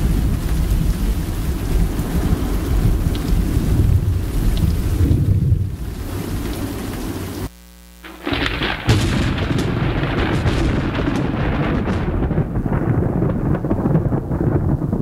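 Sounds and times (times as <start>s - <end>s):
thunder crack: 0.0s - 6.7s, 8.1s - 15.0s
rolling thunder rumble: 0.0s - 7.2s, 8.1s - 15.0s.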